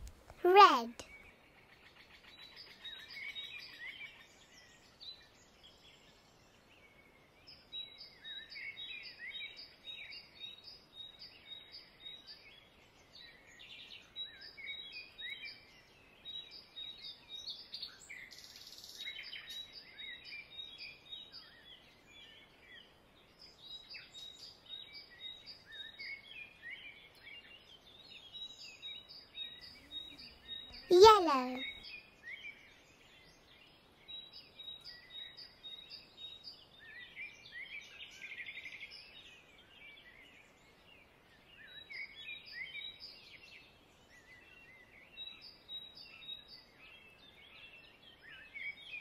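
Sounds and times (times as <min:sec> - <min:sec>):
faint birdsong chirps: 0:00.0 - 0:49.0.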